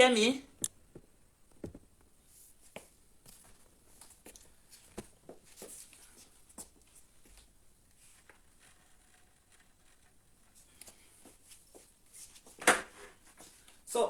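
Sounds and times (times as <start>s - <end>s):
faint light taps and rustles: 0.6s - 13.8s.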